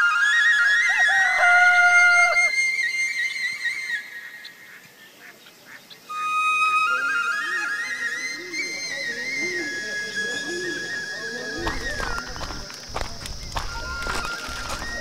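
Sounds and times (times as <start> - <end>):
flute melody: 0.0 - 4.5, 6.1 - 15.0.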